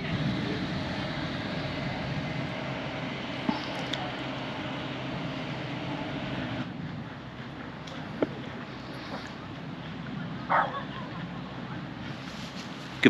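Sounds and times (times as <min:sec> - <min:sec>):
faint hum: 0:00.0 - 0:13.0
outdoor background rush: 0:00.0 - 0:13.0.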